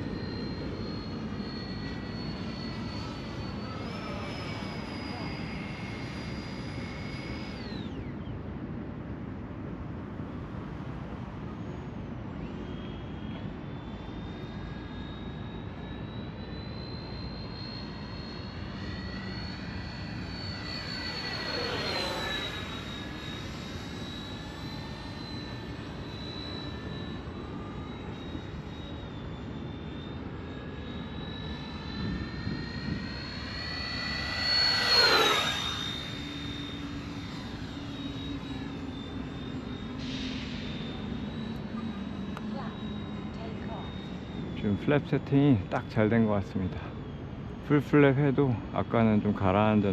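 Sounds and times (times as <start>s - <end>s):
jet fly-by pitch sweep: 0.0s - 8.4s, 12.3s - 49.9s
model jet fans whining: 0.0s - 49.9s.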